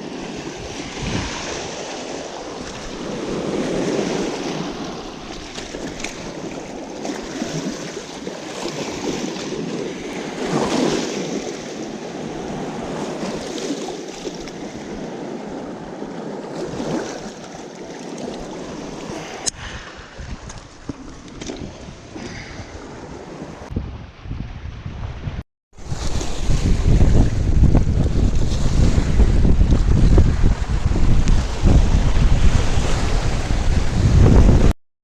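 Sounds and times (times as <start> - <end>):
rush of wind and water: 0.0 - 34.8.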